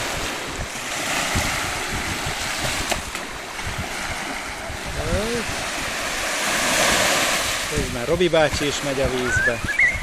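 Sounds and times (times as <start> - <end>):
small waves on sandy beach: 0.0 - 10.0
wind rumbling on microphone: 0.0 - 10.0.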